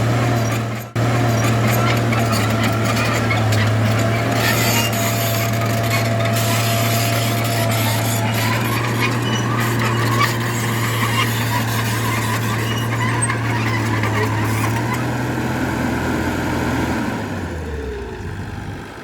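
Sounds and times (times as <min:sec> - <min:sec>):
tracks clattering and squeaking: 0:00.0 - 0:15.4
bulldozer diesel engine running: 0:00.0 - 0:19.0.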